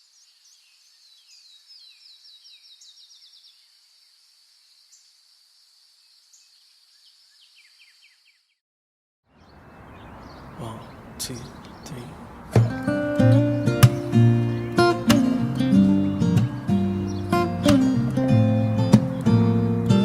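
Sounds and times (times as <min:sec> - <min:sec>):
small bird singing: 0:00.0 - 0:08.6, 0:09.3 - 0:20.0.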